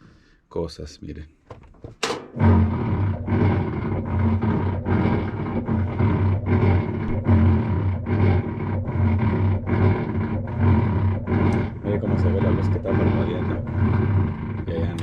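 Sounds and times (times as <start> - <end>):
washing machine grinding groan: 2.0 - 15.0
low hum: 2.1 - 15.0.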